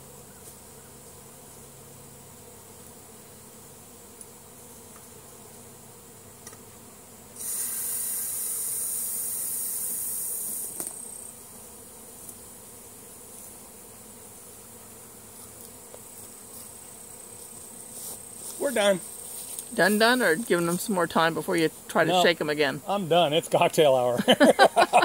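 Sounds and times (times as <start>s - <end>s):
insects buzzing: 0.0s - 25.0s
loud high-pitched insect buzz: 0.0s - 25.0s.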